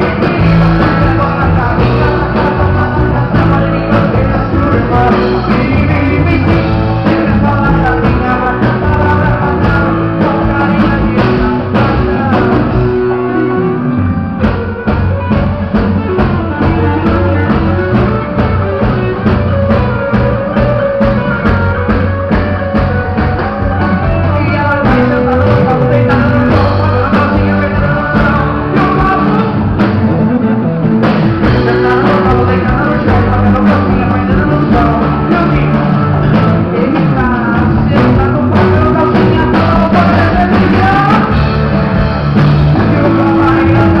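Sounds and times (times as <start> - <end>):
live band playing amplified music: 0.0 - 44.0
man singing: 0.0 - 44.0.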